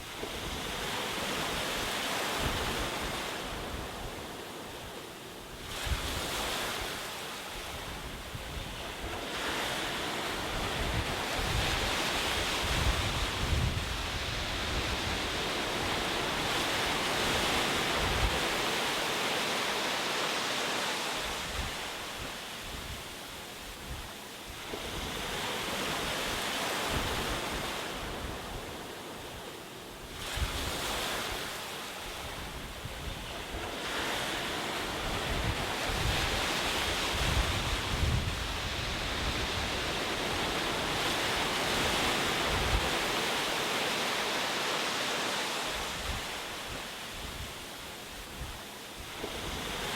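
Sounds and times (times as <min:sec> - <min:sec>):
ocean waves breaking on shore: 0:00.0 - 0:49.9.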